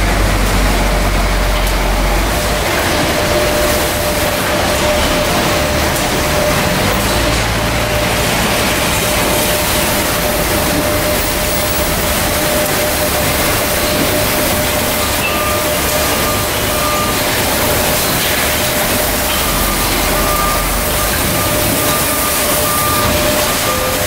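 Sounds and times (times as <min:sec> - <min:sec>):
high whine: 0:00.0 - 0:24.0
machinery and roller conveyors: 0:00.0 - 0:24.0.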